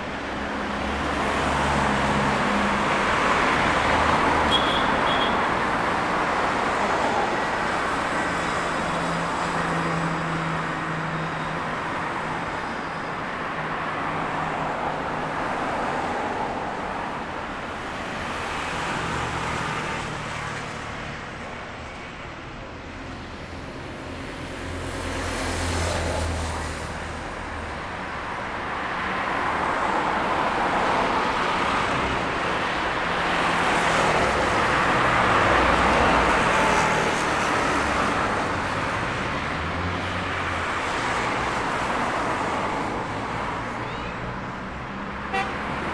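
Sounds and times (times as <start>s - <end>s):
cars passing: 0.0s - 21.8s, 23.4s - 45.9s.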